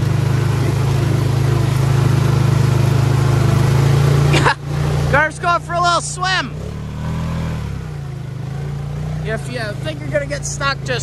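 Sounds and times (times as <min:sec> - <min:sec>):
atv engine running at low revs: 0:00.0 - 0:11.0.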